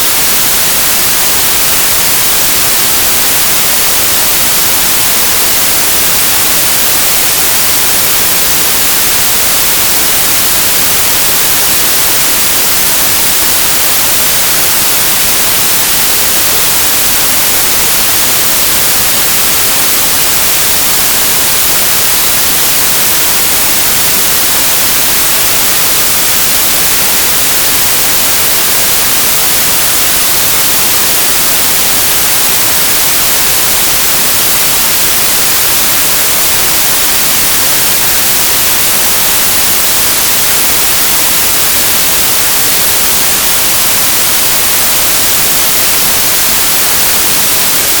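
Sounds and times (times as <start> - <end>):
static hiss: 0.0 - 48.0.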